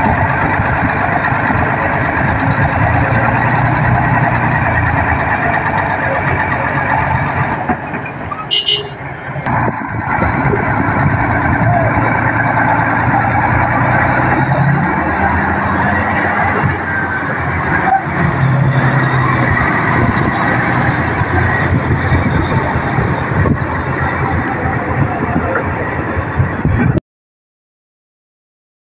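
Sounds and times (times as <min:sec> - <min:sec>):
heavy truck diesel engine revving: 0:00.0 - 0:27.0.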